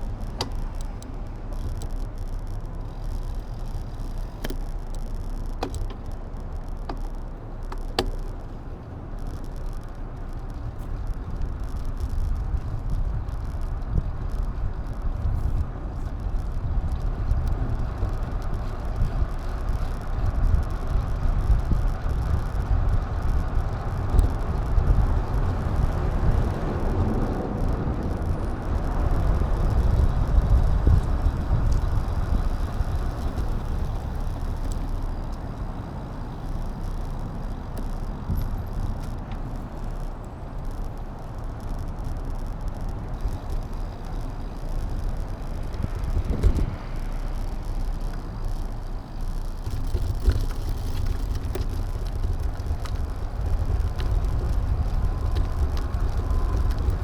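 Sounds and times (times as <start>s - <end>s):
bicycle road rumble: 0.0s - 57.0s
wind buffeting microphone: 9.0s - 57.0s.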